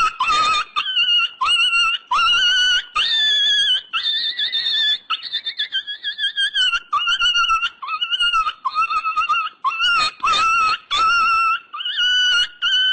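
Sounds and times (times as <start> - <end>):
animal whining: 0.0 - 12.9.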